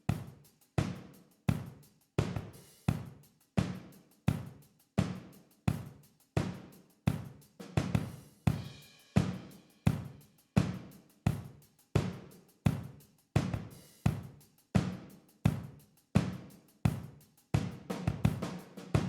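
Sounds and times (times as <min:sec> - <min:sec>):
drum kit beat with room ring: 0:00.0 - 0:19.0.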